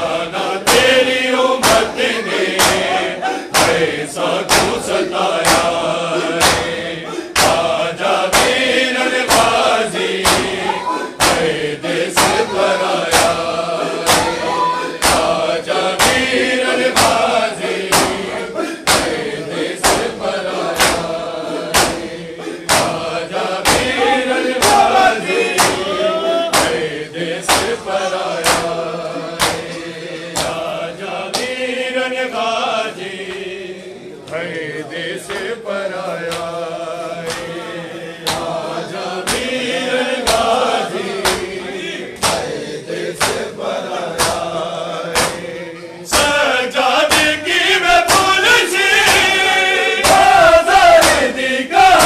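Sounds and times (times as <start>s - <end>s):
men chanting in unison: 0.0s - 52.0s
hands slapping chests: 0.6s - 31.6s, 35.3s - 36.6s, 37.2s - 37.6s, 38.2s - 41.6s, 42.2s - 45.5s, 46.1s - 46.4s, 47.1s - 47.4s, 48.0s - 52.0s.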